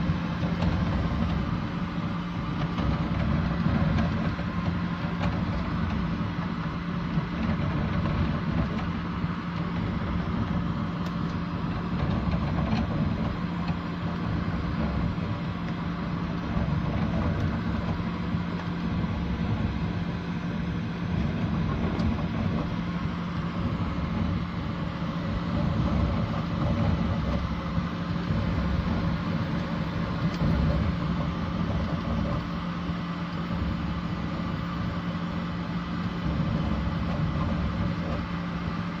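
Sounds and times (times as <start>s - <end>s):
printer machine hum and rattle: 0.0s - 39.0s.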